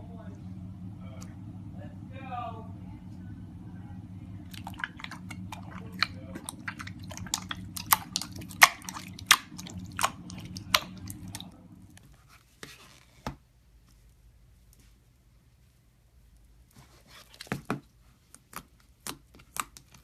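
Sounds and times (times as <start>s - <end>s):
low steady hum: 0.0s - 17.2s.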